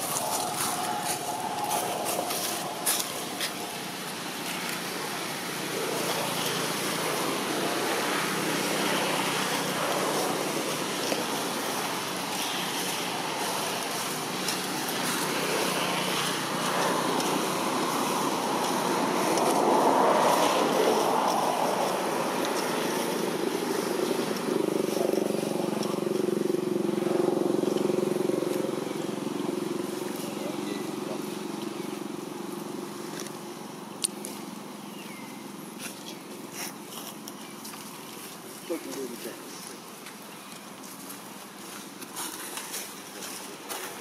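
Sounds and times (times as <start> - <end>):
rushing outdoor background noise: 0.0 - 44.0.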